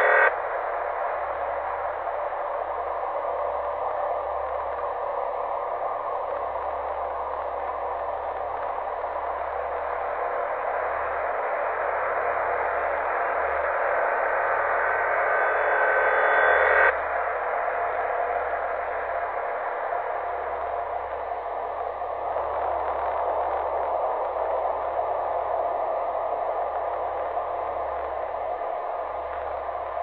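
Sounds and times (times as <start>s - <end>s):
eerie droning hiss: 0.0s - 30.0s.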